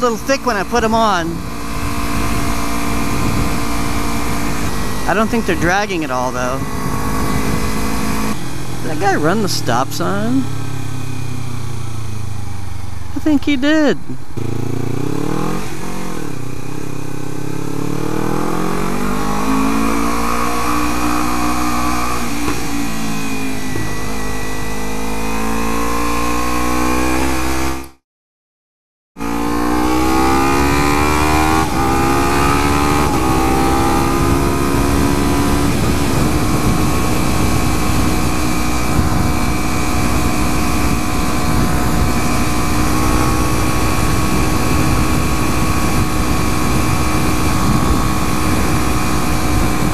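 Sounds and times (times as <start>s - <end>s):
motorcycle engine accelerating: 0.0s - 28.0s, 29.2s - 49.9s.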